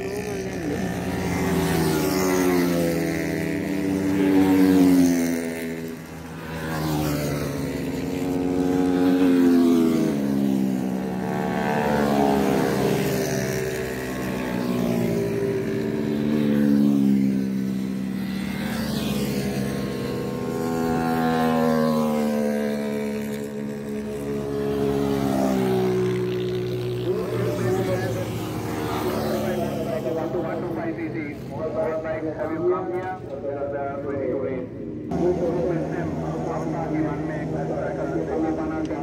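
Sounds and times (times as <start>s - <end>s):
racing motorcycles passing: 0.0s - 39.0s.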